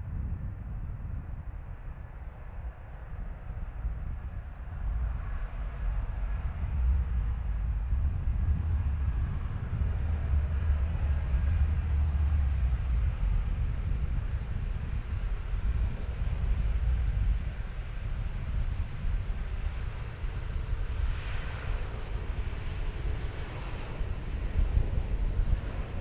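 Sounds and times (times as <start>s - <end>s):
jet engines rumbling: 3.0s - 26.0s.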